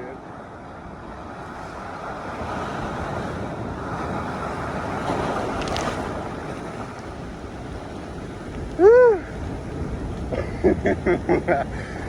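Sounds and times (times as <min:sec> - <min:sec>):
ocean wave breaking: 0:00.0 - 0:12.0
wind buffeting microphone: 0:00.0 - 0:12.0.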